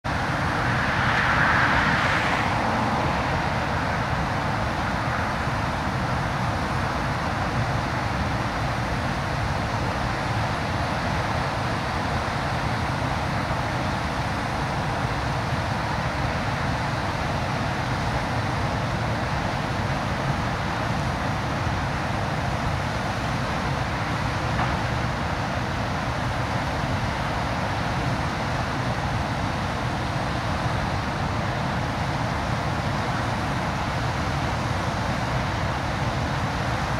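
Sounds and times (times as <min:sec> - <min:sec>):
water rushing over dam: 0:00.1 - 0:36.9.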